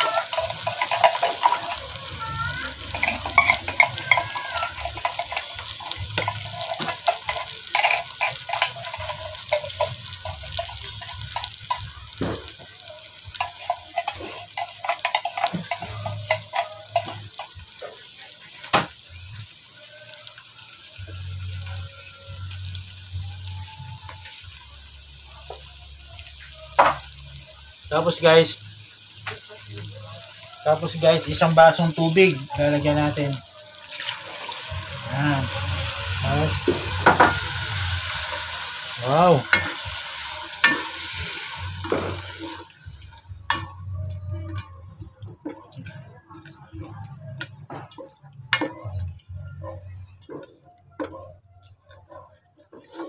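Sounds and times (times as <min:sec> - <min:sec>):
mushrooms sizzling in pot: 0:00.0 - 0:53.0.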